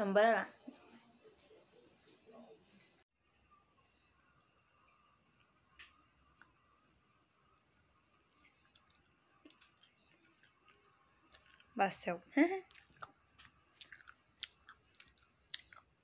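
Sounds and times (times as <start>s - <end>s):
insects chirring: 1.2s - 16.0s.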